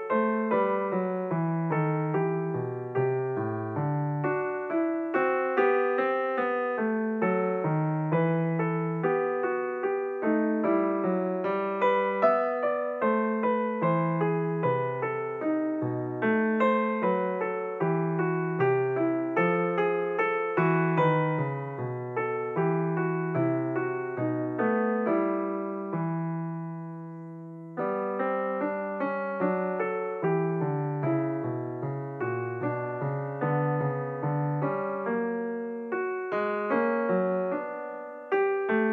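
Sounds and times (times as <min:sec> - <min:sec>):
solo piano music: 0:00.0 - 0:38.9.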